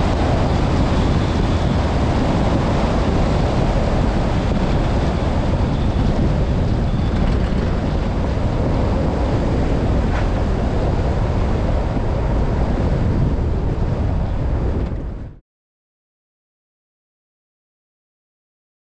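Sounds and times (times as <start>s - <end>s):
tyres rumbling on rough road: 0.0s - 15.4s
wind buffeting on microphone: 0.0s - 15.4s.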